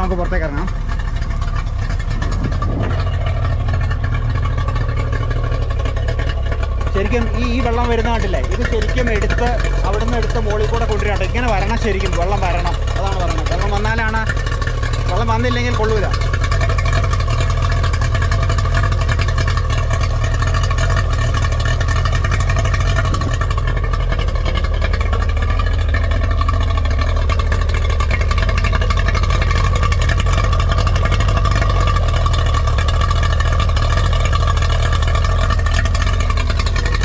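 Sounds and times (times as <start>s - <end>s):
outboard engine idling: 0.0s - 37.0s.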